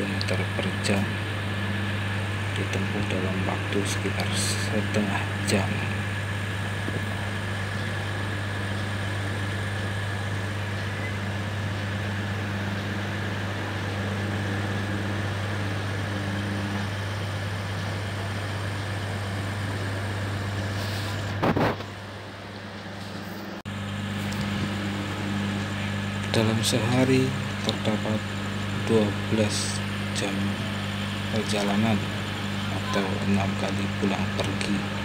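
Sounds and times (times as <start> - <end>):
train engine idling hum: 0.0 - 21.4, 22.0 - 35.0
faint high whine: 0.0 - 35.0.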